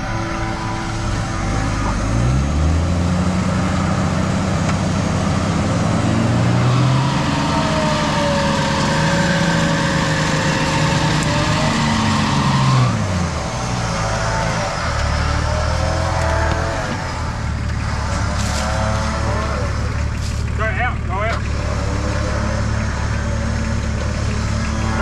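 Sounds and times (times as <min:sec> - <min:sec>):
diesel engine revving under load: 0:00.0 - 0:25.0
high whine: 0:00.0 - 0:25.0.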